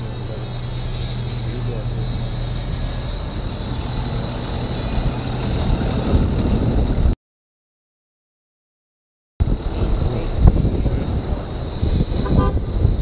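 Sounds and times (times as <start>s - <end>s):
street traffic noise: 0.0s - 7.2s, 9.4s - 13.0s
truck engine running: 0.0s - 7.2s, 9.4s - 13.0s.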